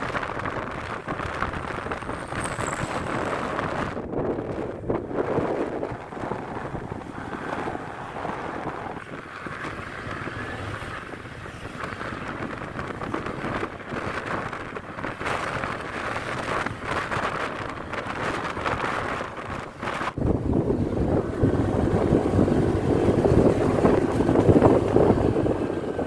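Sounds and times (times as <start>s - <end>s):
road noise: 0.0s - 26.0s
wind rushing over microphone: 0.0s - 26.0s
scooter running: 4.9s - 26.0s.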